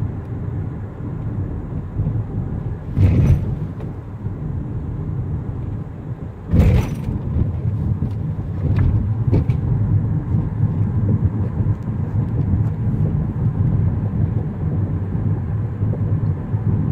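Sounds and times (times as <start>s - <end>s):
cars and trucks rumbling: 0.0s - 16.9s.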